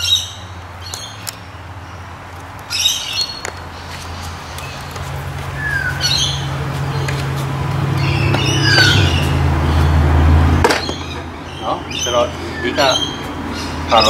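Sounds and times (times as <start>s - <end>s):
birds squawking: 2.7s - 14.0s.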